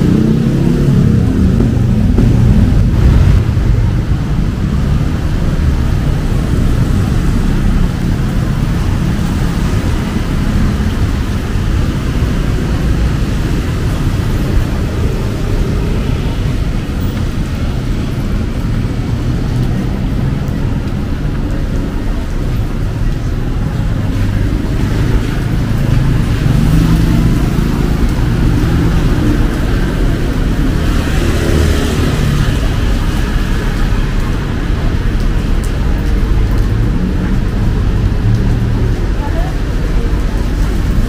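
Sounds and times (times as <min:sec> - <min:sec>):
car engines passing: 0:00.0 - 0:41.0
tyre noise of passing car: 0:00.0 - 0:41.0.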